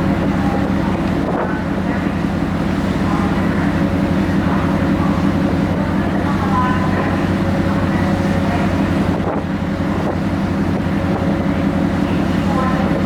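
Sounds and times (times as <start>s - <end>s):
wind on microphone: 0.0s - 2.2s, 4.4s - 13.0s
ferry engines droning: 0.0s - 13.0s.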